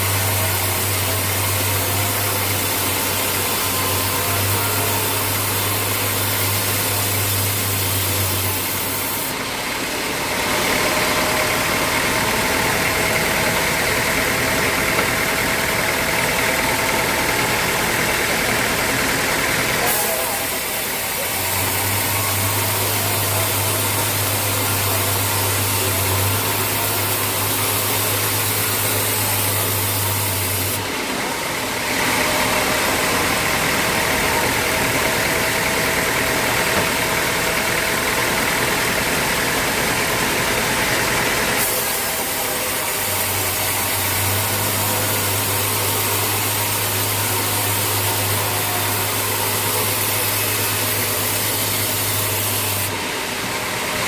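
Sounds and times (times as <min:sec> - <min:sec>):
higher machine running sound: 0:00.0 - 0:54.0
sawmill machinery low hum: 0:00.0 - 0:54.0.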